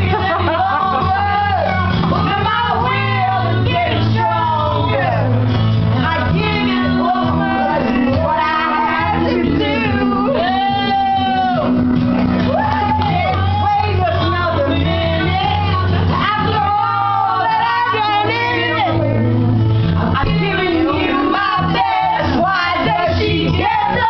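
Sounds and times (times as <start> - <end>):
women singing loudly: 0.0 - 5.4, 6.0 - 11.8, 12.4 - 19.4, 20.0 - 24.0
music: 0.0 - 24.0.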